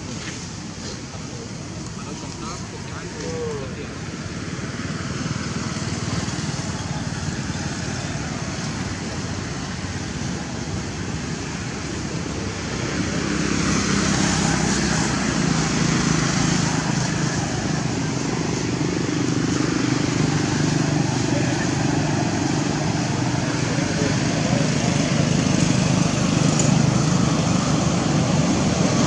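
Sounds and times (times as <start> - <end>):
motor engine noise: 0.0 - 29.0.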